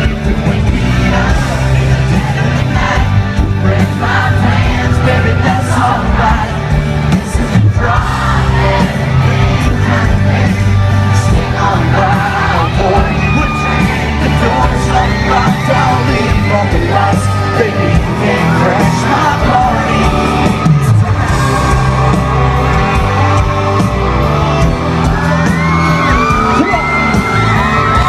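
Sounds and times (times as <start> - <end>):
people singing: 0.0 - 26.2
crowd yelling and whooping: 0.0 - 28.0
live band playing country-rock: 0.0 - 28.0.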